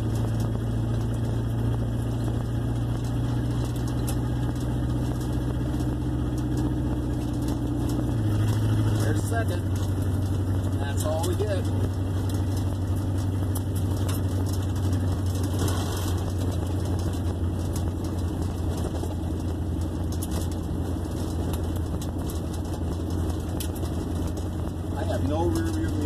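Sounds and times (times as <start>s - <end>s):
unmuffled car engine droning: 0.0s - 26.0s.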